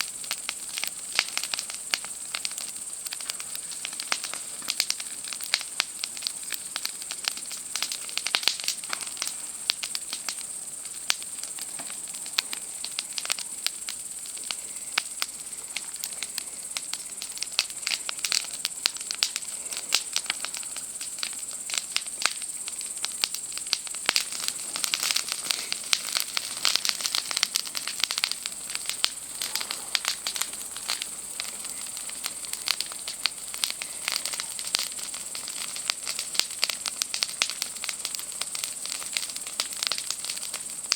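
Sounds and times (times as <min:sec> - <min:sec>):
campfire crackling and popping: 0:00.0 - 0:40.9
cicadas buzzing: 0:00.0 - 0:40.9.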